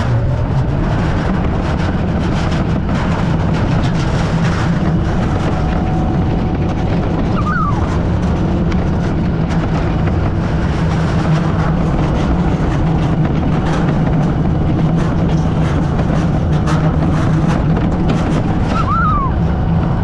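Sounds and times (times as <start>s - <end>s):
bobsled wheels rumbling on rail: 0.0s - 20.0s.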